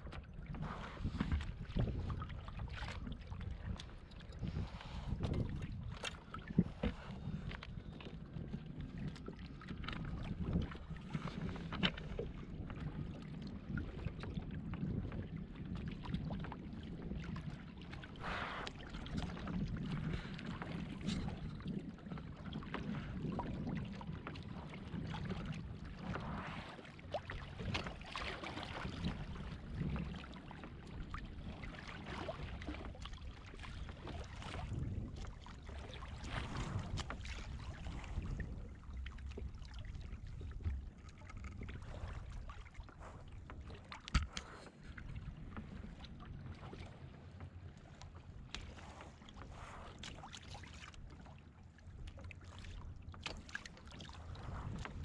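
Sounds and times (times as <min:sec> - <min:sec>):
sea water sloshing around kayak: 0:00.0 - 0:55.0
wind: 0:00.0 - 0:55.0.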